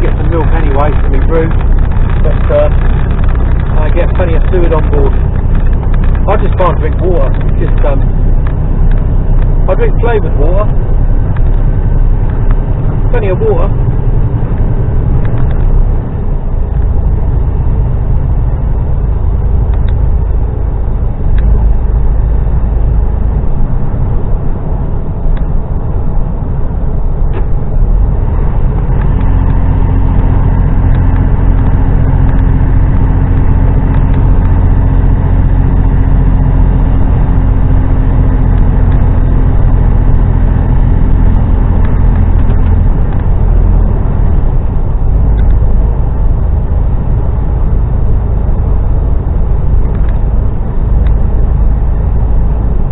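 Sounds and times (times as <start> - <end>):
road noise: 0.0 - 52.9
truck diesel engine running: 0.0 - 52.9.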